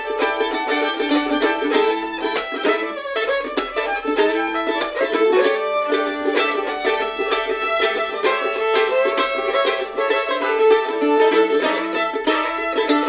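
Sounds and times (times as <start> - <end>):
fiddle bowing melody: 0.0 - 13.0
mandolin picking: 0.0 - 13.0.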